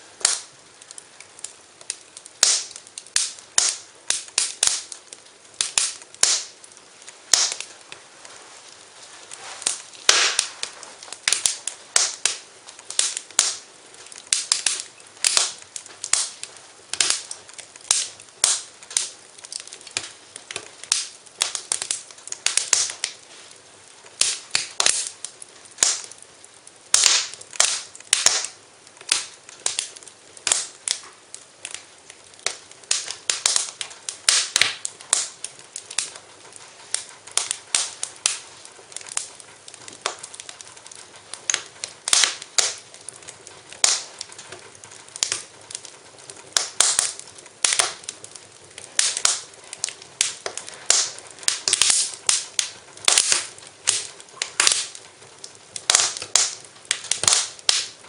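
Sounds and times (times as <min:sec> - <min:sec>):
fire crackling and popping: 0:00.0 - 0:58.0
soft hiss: 0:00.0 - 0:58.0.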